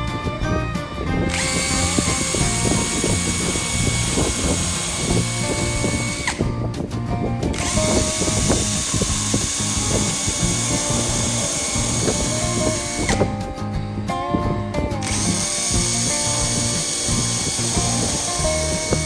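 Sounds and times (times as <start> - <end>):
background music with beat: 0.0 - 19.0
electric power tool whirring: 0.8 - 13.5, 15.0 - 19.0.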